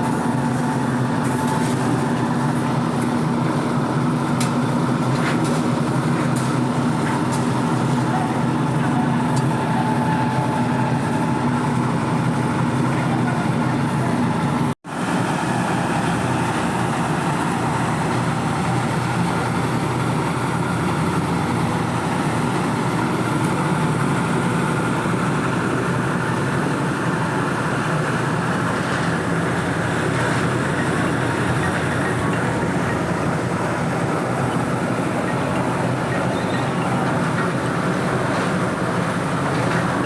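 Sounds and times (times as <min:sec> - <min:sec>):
machinery engine running: 0:00.0 - 0:40.0.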